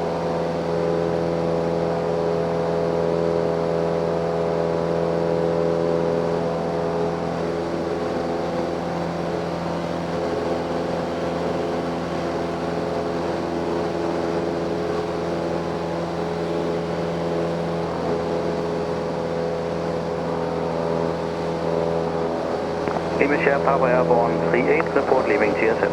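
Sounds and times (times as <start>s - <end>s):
airplane engine and propeller drone: 0.0s - 25.9s.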